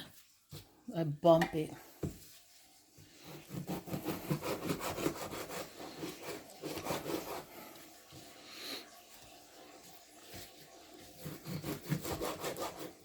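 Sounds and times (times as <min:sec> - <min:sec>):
scraping and rubbing strokes: 0:02.2 - 0:13.0.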